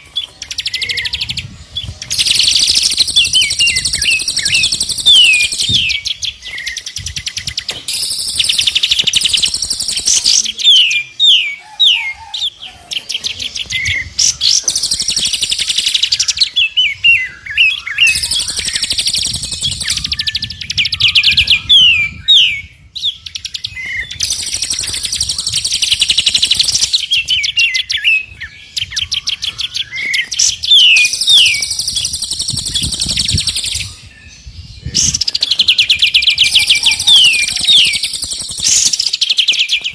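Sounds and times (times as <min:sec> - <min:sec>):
songbird trills and whistles: 0:00.0 - 0:39.9.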